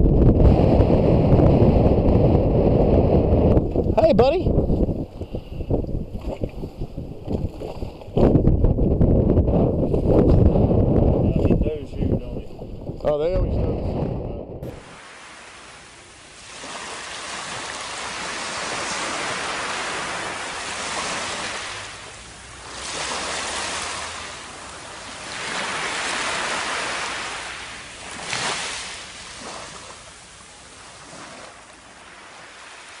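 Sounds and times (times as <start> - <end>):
surf washing over sand: 0.0 - 33.0.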